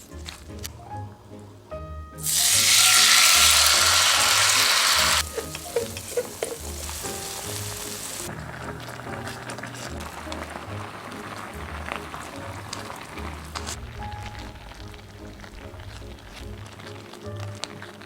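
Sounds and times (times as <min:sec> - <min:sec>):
food sizzling in a pot: 0:02.2 - 0:18.0.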